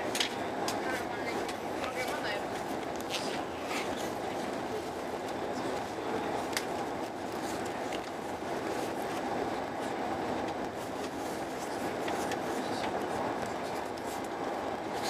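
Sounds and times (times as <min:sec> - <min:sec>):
train running noise inside car: 0:00.0 - 0:15.0.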